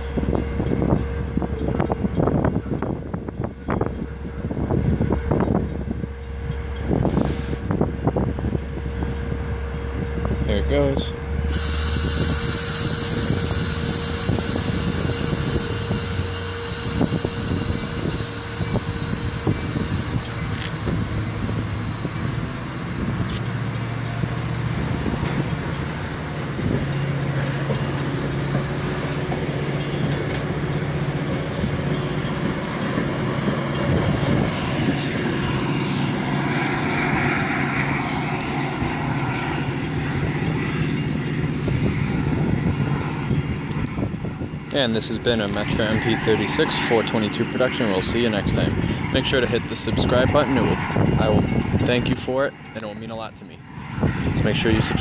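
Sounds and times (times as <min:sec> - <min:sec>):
low steady drone: 0:00.0 - 0:52.1.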